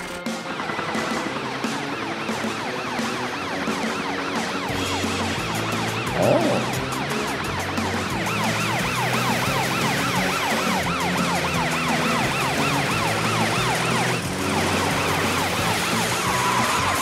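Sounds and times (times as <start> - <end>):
police siren yelping: 2.0 - 17.0.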